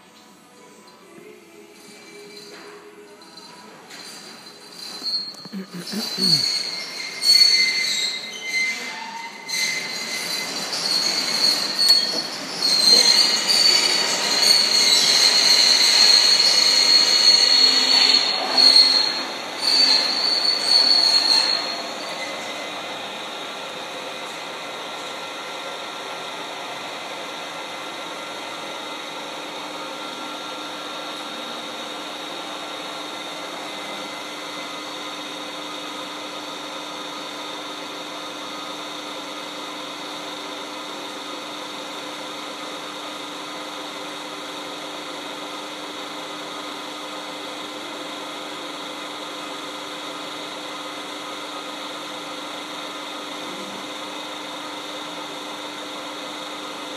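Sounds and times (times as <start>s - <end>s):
lathe whirring: 9.9s - 56.7s.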